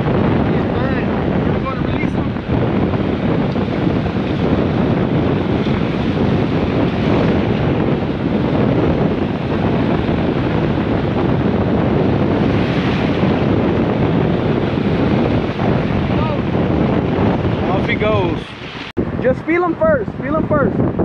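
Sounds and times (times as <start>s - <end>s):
surf on beach: 0.0s - 21.0s
wind buffeting microphone: 0.0s - 21.0s.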